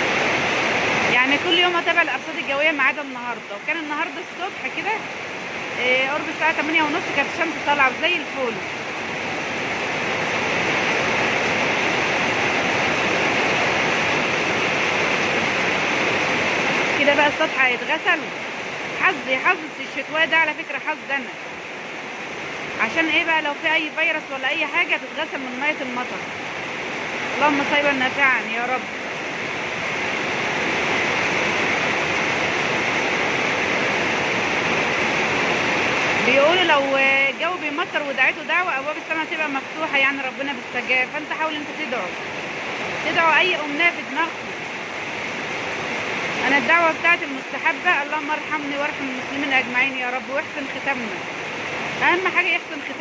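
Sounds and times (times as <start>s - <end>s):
rain on a rooftop: 0.0s - 53.0s.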